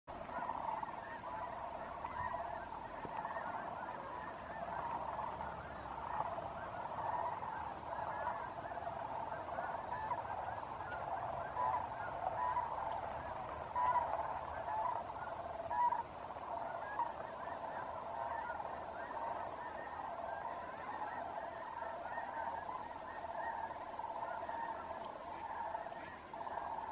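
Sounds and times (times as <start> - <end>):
geese and cranes calling: 0.1 - 26.9.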